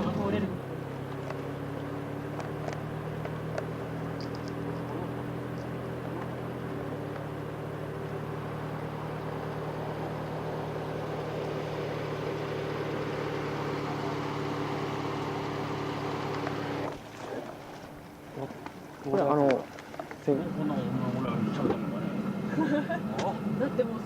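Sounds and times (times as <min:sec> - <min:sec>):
car engine running: 0:00.0 - 0:24.0
tyre and road noise: 0:00.0 - 0:24.0.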